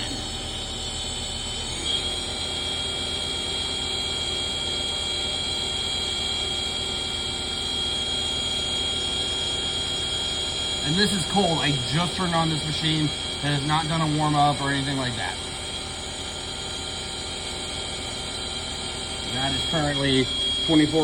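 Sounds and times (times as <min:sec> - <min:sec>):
lathe spindle hum and whine: 0:00.0 - 0:21.0.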